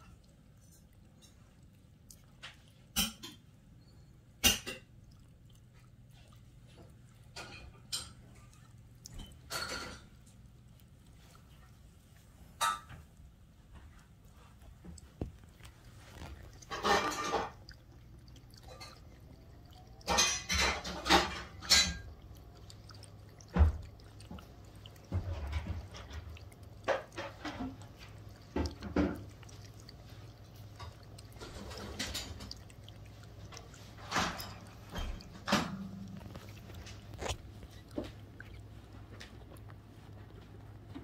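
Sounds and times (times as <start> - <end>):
dog licking and slurping: 0.0 - 41.0.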